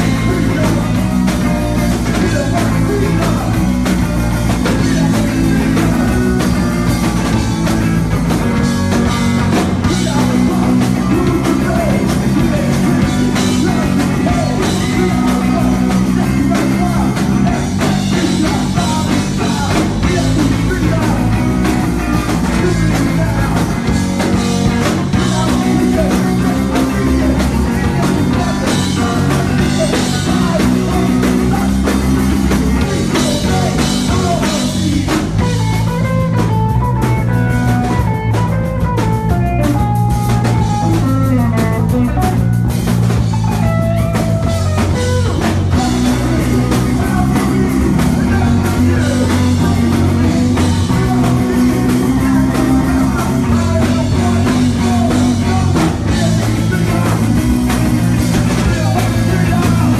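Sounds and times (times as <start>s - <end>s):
person singing: 0.0s - 36.6s, 43.4s - 59.9s
punk rock band playing live: 0.0s - 59.9s.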